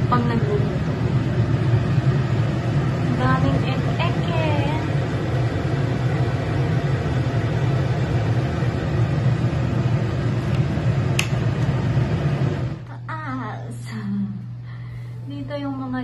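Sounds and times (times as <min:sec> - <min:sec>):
range hood fan rushing air: 0:00.0 - 0:16.0.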